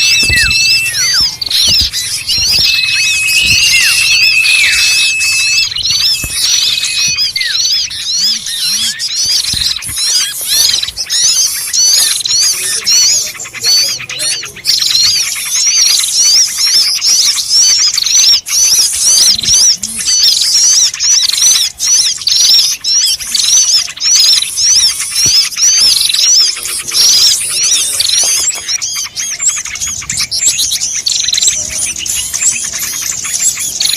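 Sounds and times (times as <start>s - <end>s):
flock of small birds chirping: 0.0s - 33.9s.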